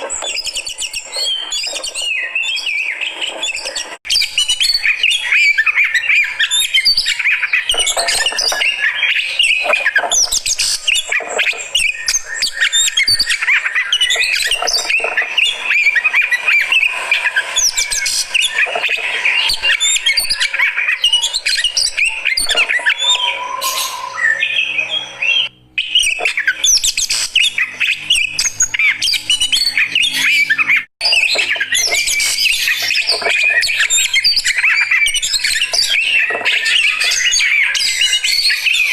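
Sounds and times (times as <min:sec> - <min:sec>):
bird chirping and squawking: 0:00.0 - 0:38.9.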